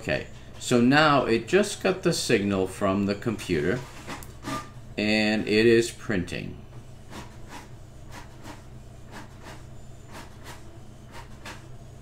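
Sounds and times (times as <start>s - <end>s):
printer hum: 0.0s - 12.0s.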